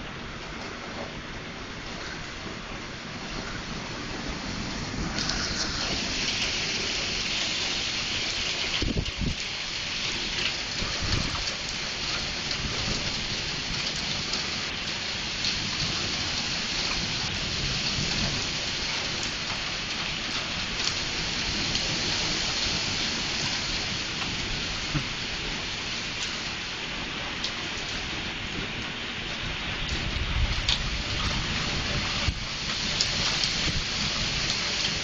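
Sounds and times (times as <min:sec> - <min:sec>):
heavy rain hiss: 0:00.0 - 0:35.0
hailstones cracking: 0:04.8 - 0:26.6, 0:27.4 - 0:35.0.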